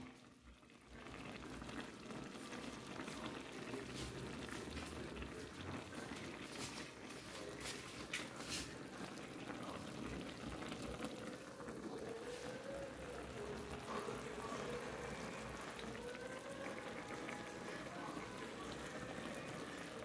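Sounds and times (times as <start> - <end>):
chicken bubbling in a pot: 0.0 - 20.0.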